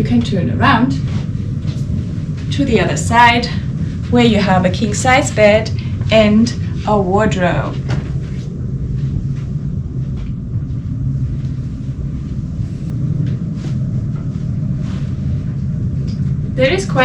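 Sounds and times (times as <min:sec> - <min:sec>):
ship engine rumble and hum: 0:00.0 - 0:17.0.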